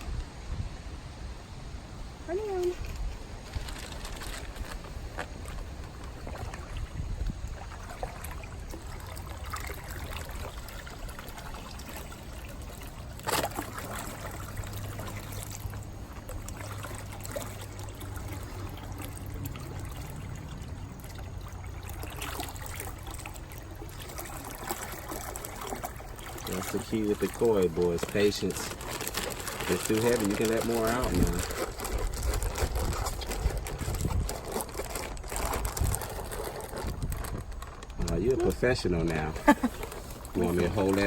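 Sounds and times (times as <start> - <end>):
pond water trickling and splashing: 1.8 - 41.0.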